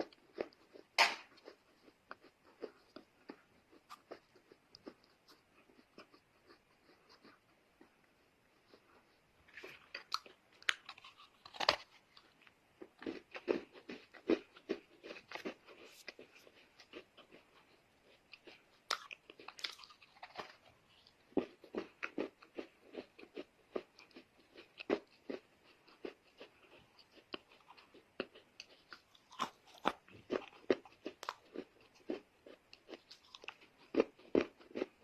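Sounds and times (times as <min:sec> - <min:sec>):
chewing dry clay crunches: 0:00.0 - 0:35.0.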